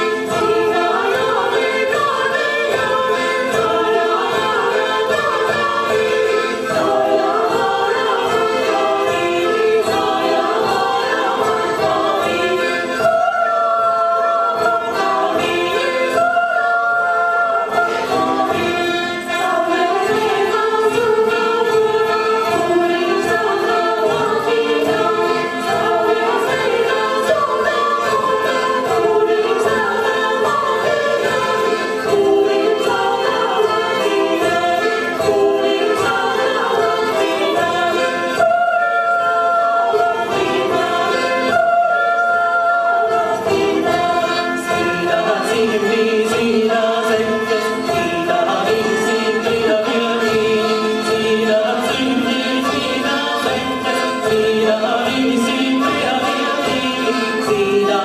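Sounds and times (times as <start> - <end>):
choir singing folk dance song: 0.0 - 58.0.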